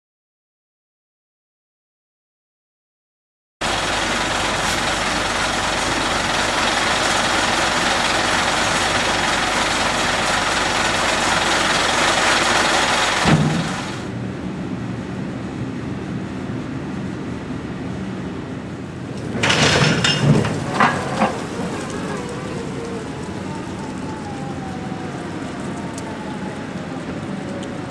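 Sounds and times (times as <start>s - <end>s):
heavy vehicle engine running: 3.6s - 27.9s.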